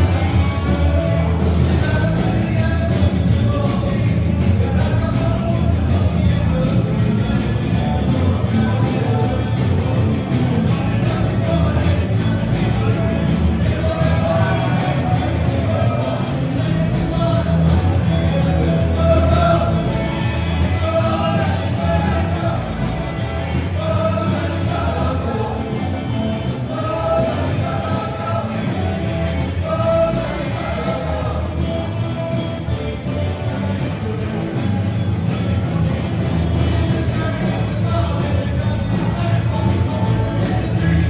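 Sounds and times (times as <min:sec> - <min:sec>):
band music with singing: 0:00.0 - 0:41.0
steady drum beat: 0:00.0 - 0:41.0.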